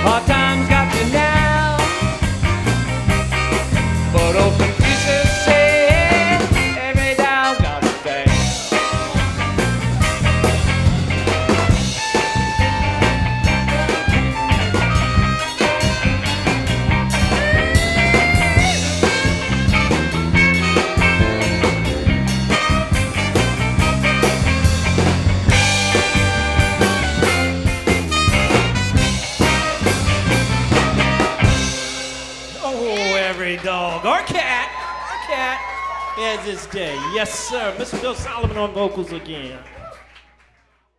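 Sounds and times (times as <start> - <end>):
band playing instrumental jazz: 0.0 - 34.1.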